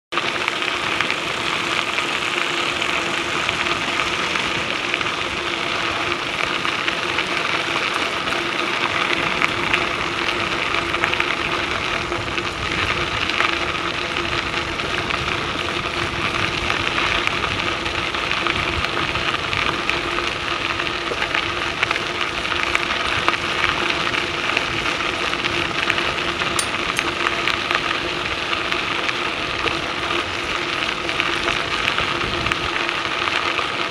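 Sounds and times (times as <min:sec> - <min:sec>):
bicycle tyres on gravel trail: 0:00.1 - 0:33.9.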